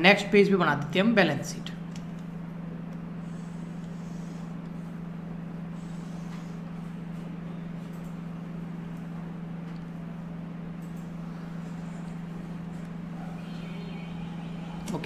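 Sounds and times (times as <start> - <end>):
low hum: 0.6 - 15.0.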